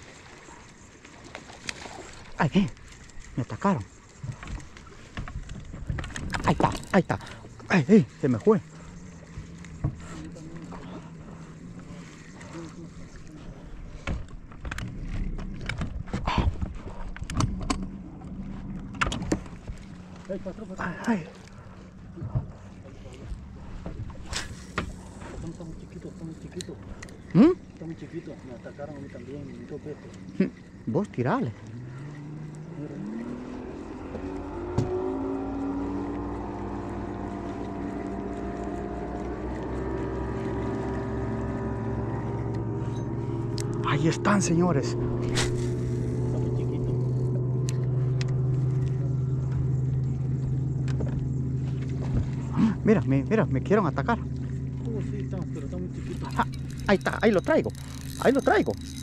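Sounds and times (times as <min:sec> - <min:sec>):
boat motor humming: 0:00.0 - 0:59.0.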